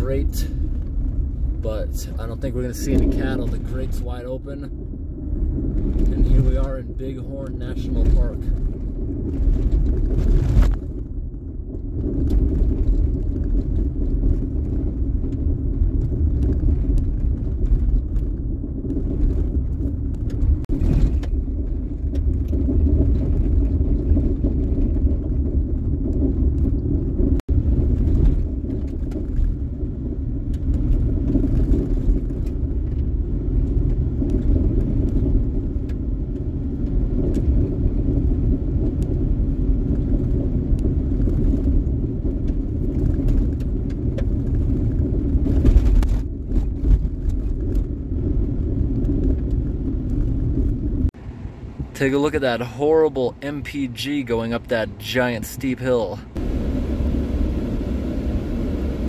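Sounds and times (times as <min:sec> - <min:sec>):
vehicle driving on gravel road: 0:00.0 - 0:59.0.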